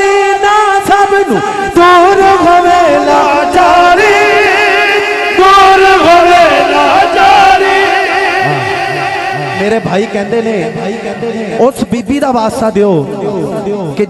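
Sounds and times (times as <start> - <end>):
man singing through microphone: 0.0 - 11.7.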